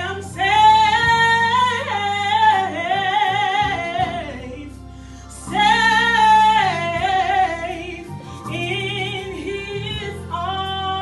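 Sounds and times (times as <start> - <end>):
low musical accompaniment: 0.0 - 11.0
person singing gospel: 0.0 - 11.0.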